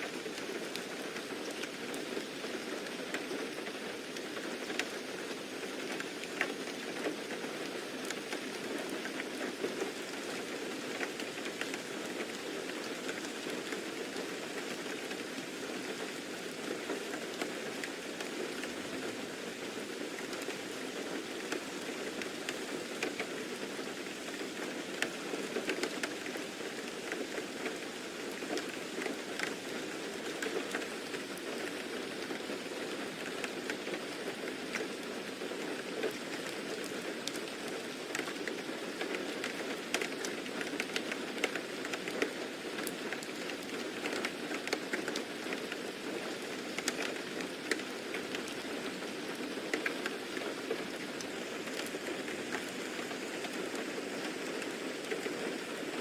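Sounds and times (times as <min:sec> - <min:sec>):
rain drops pattering on surface: 0:00.0 - 0:56.0.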